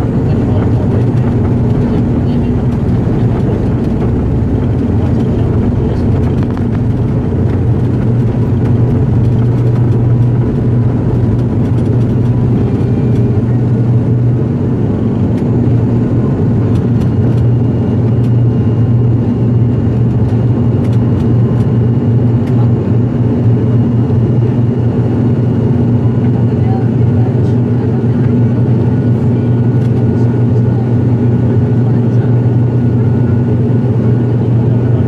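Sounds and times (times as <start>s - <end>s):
turboprop engines droning: 0.0s - 35.0s.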